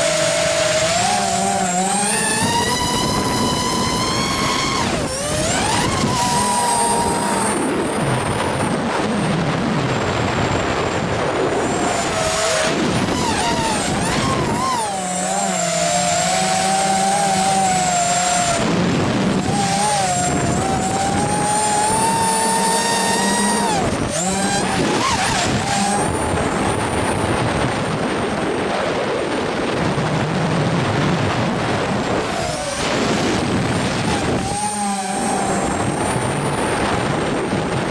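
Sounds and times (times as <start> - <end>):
quadcopter motors whining: 0.0 - 37.9
wind noise: 0.0 - 37.9.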